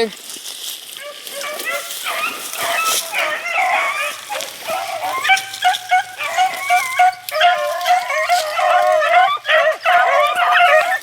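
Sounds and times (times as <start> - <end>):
dogs baying and yelping: 1.0 - 11.0.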